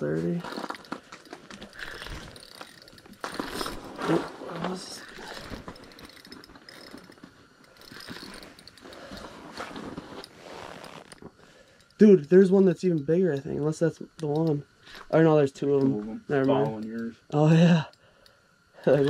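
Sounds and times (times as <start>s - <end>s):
fishing reel gears whirring: 0.2s - 19.0s.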